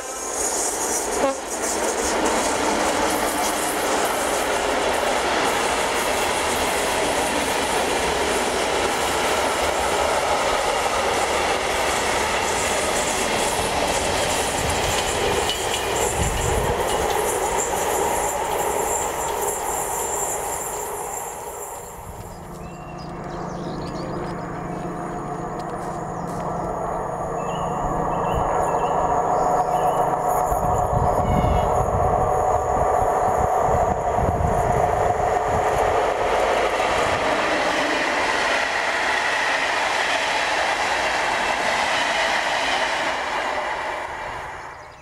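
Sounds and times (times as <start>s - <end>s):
freight train wheels clattering on rails: 0.0s - 45.0s.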